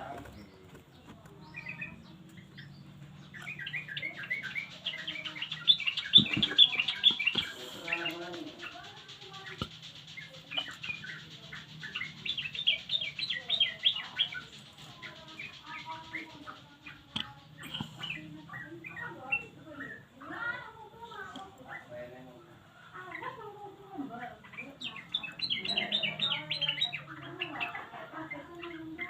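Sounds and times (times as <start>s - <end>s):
bird chattering song: 0.0s - 22.4s, 23.1s - 29.0s.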